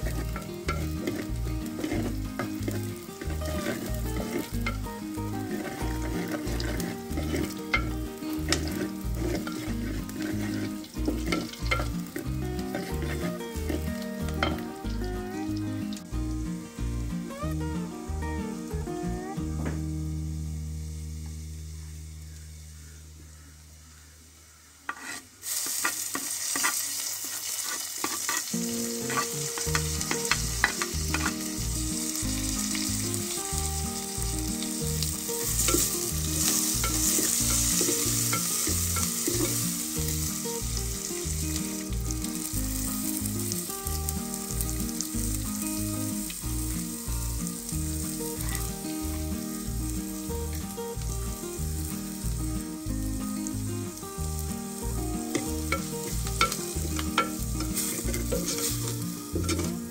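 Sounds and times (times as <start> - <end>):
vegetables sizzling in hot oil: 0.0 - 23.4, 24.9 - 59.9.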